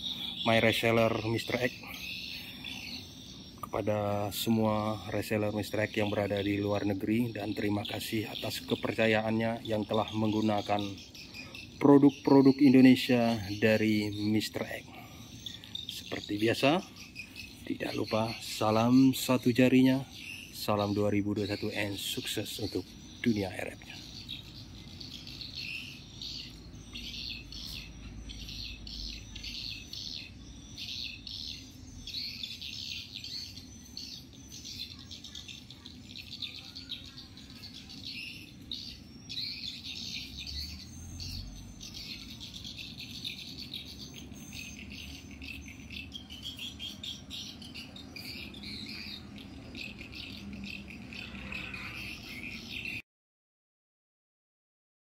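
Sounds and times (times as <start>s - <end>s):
bird chirps: 0.0s - 53.0s
insects chirping: 0.0s - 53.0s.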